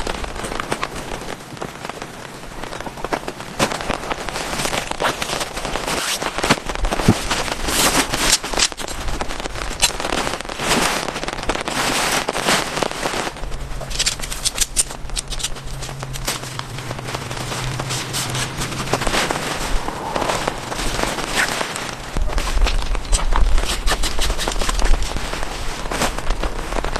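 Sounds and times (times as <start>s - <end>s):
heavy rain on a surface: 0.0s - 26.9s
low steady hum: 0.0s - 26.9s.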